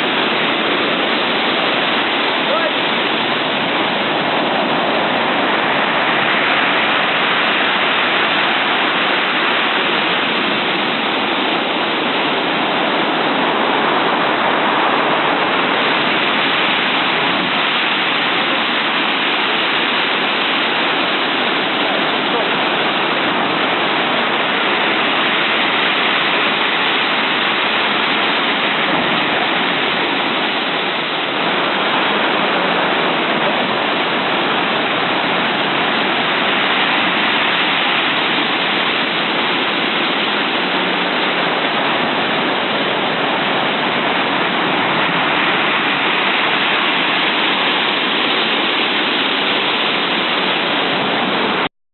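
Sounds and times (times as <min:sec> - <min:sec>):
stormy surf roaring: 0:00.0 - 0:51.7.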